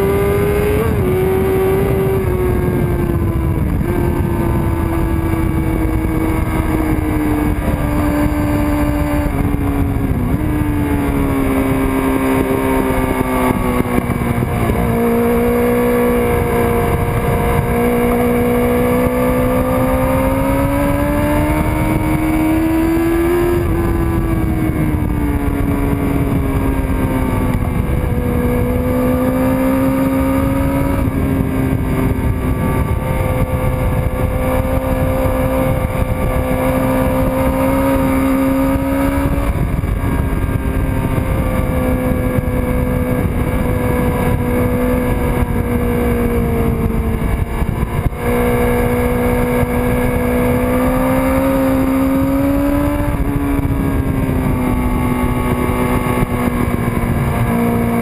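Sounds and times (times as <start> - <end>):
motorcycle engine revving: 0.0 - 58.0
wind rushing past: 0.0 - 58.0.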